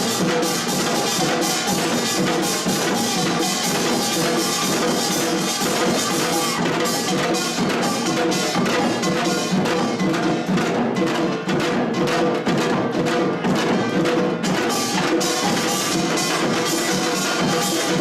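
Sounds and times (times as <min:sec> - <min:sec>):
drums: 0:00.0 - 0:18.0
ringing small gongs: 0:00.0 - 0:18.0.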